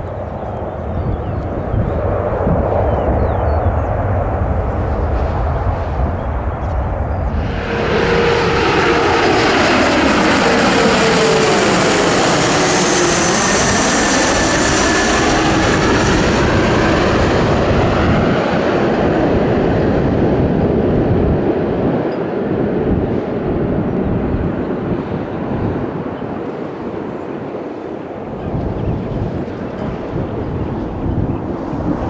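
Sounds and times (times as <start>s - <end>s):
airplane passing close by: 0.0s - 32.0s.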